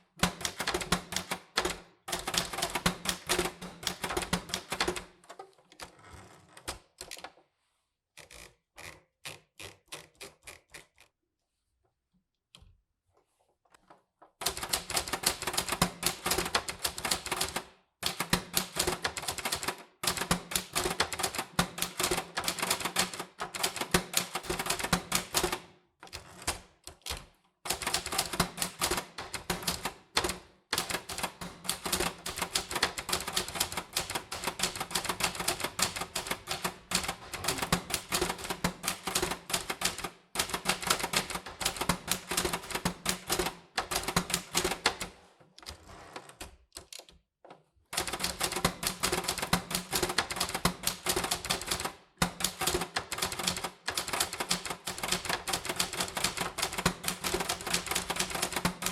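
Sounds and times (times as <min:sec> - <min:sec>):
typewriter keystrokes clacking: 0:00.2 - 0:05.2, 0:14.4 - 0:45.1, 0:46.4 - 0:47.2, 0:47.9 - 0:58.9.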